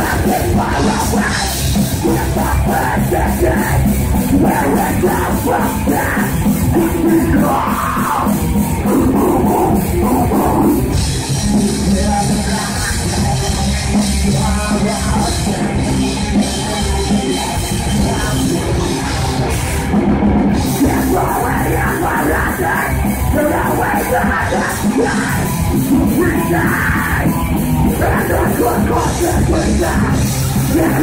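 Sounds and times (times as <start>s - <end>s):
harsh screamed vocals: 0.0s - 11.0s, 14.4s - 31.0s
bass guitar: 0.0s - 31.0s
distorted electric guitars: 0.0s - 31.0s
drum kit: 0.0s - 31.0s.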